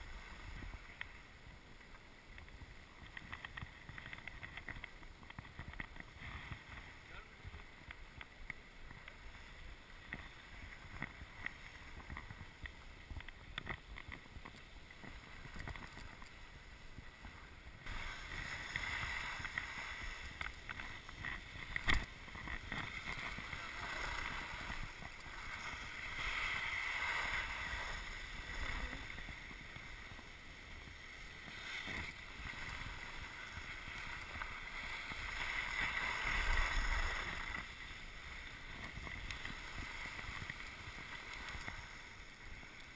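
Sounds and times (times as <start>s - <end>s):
skis scraping over snow: 0.0s - 42.9s.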